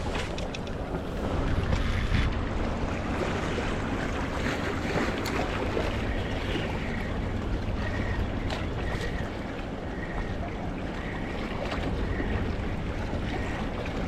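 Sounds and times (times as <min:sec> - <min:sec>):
waves on rocky shore: 0:00.0 - 0:14.0
wind on microphone: 0:00.0 - 0:14.0.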